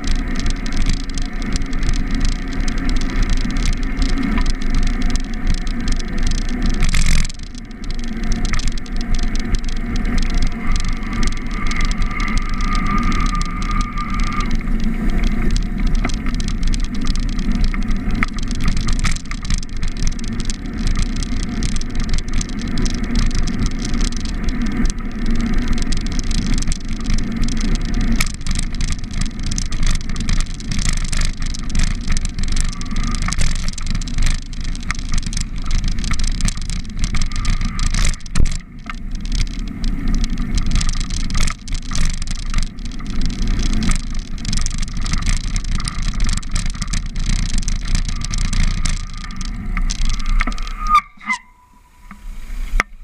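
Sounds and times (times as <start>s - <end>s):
bicycle tyre noise on road: 0.0s - 53.0s
car traffic: 0.0s - 53.0s.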